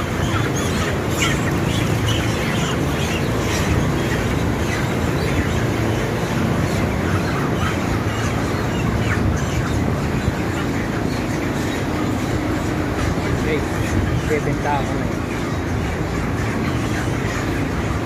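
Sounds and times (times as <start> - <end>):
chickens squawking: 0.0 - 18.0.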